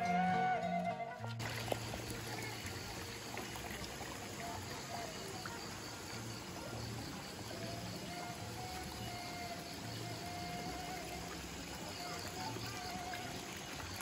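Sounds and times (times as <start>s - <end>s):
running water: 0.0s - 14.0s
insects chirping: 1.4s - 14.0s.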